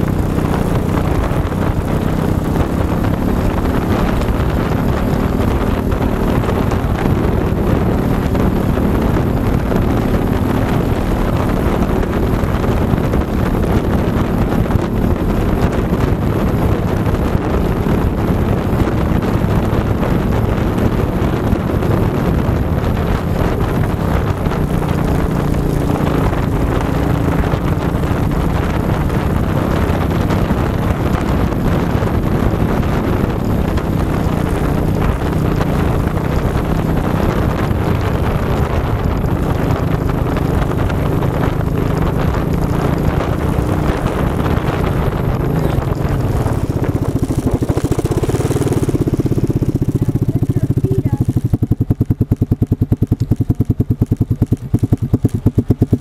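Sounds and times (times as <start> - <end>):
quad engine running: 0.0 - 56.0
trail and wind noise: 0.0 - 56.0.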